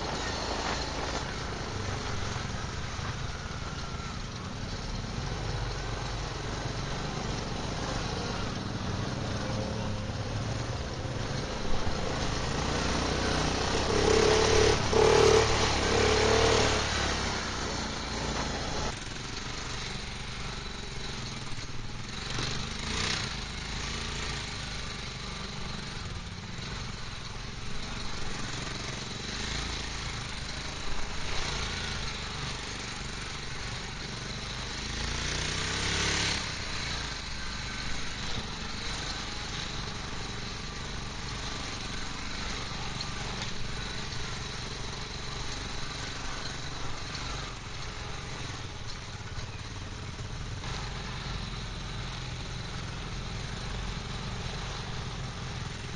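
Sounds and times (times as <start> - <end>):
quad bike engine running: 0.0 - 55.9.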